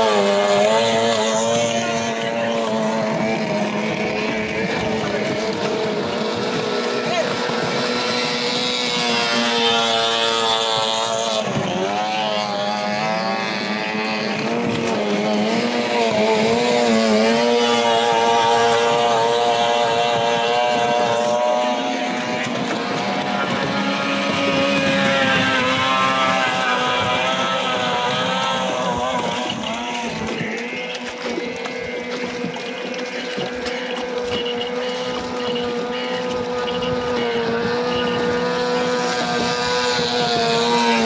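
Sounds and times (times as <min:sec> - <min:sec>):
outboard motors droning: 0:00.0 - 0:41.0.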